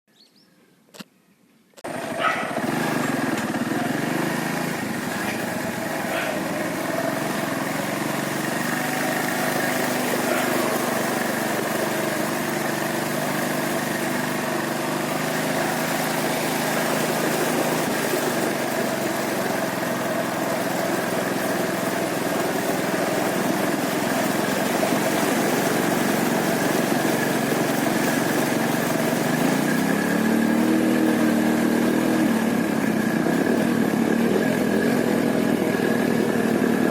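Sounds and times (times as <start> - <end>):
small engine running: 1.8 - 36.9.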